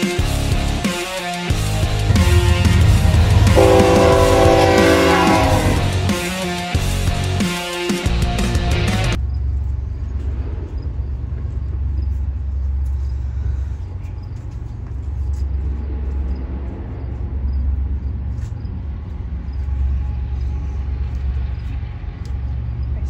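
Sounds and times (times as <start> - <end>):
diesel locomotive engines rumbling: 1.5 - 7.5, 8.1 - 23.0.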